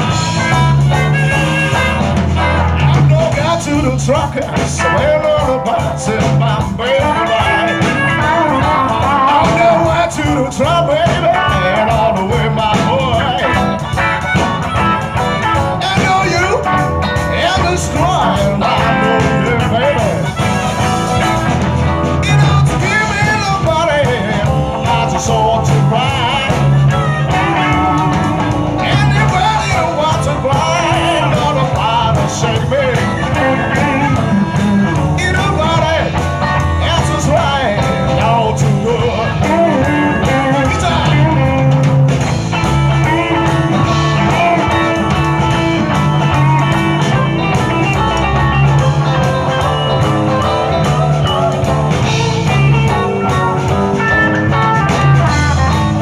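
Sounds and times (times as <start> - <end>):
electric guitars: 0.0 - 56.0
live blues band playing: 0.0 - 56.0
steady bass line: 0.0 - 56.0.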